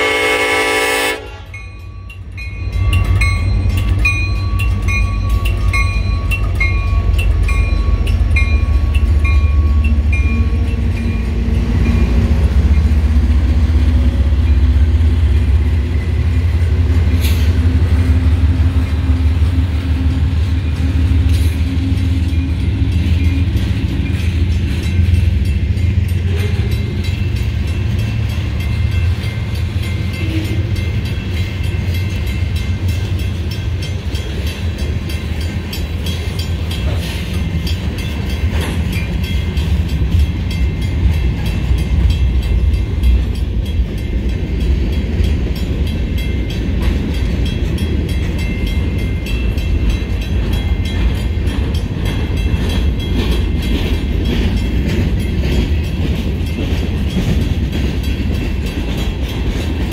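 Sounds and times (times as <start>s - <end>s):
crossing bell ringing: 0.0s - 59.9s
locomotives rumbling past: 1.4s - 59.9s.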